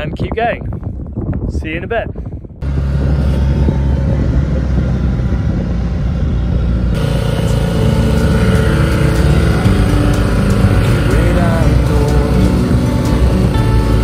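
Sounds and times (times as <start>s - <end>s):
wind: 0.0s - 14.0s
outboard motor running: 2.6s - 14.0s.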